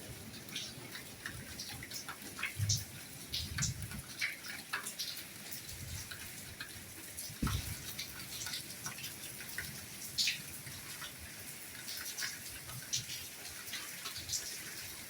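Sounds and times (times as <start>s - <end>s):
raindrops ticking and dripping: 0.0s - 15.0s
soft rain hissing: 0.0s - 15.0s.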